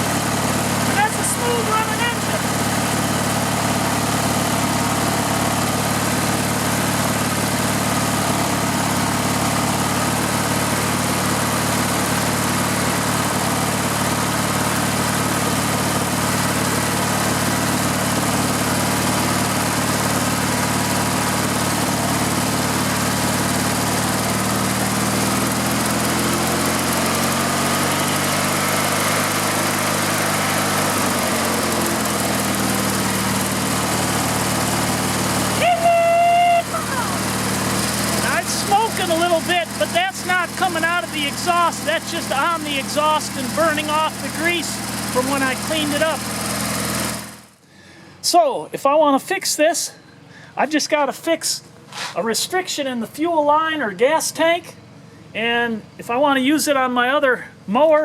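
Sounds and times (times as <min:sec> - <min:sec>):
riding lawn mower engine running: 0:00.0 - 0:48.2, 0:51.6 - 0:53.6, 0:54.3 - 0:57.7.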